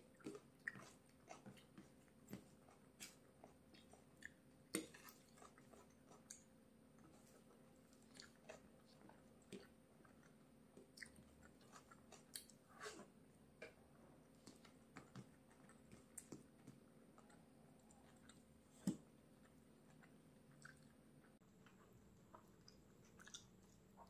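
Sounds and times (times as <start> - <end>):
close-miked chewing: 0.0 - 24.0.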